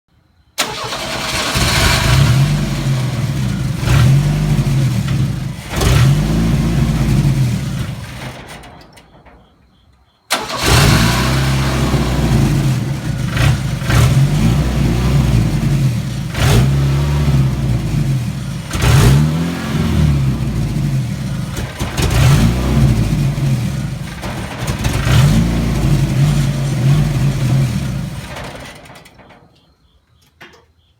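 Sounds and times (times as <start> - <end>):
pickup engine revving: 0.6 - 8.6, 10.3 - 29.2.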